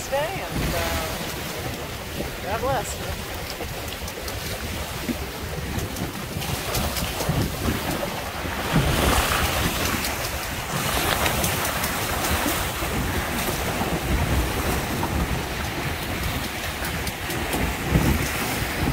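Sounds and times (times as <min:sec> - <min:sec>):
water splashing along a hull: 0:00.0 - 0:18.9
wind buffeting microphone: 0:00.0 - 0:18.9.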